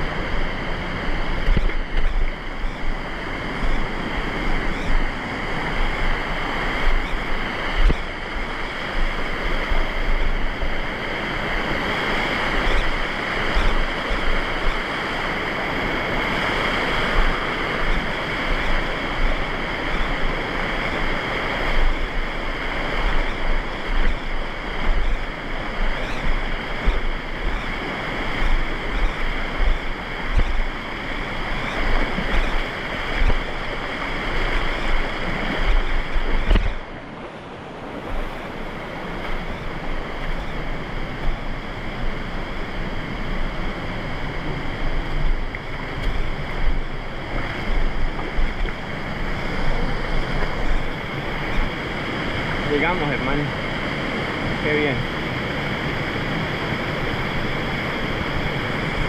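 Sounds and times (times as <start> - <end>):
fast-flowing river water: 0.0 - 59.0
wind buffeting microphone: 0.0 - 59.0.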